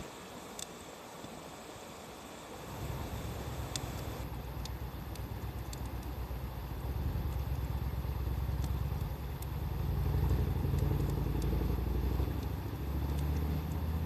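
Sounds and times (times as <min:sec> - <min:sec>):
wood fire crackling: 0:00.2 - 0:01.4, 0:02.3 - 0:14.0.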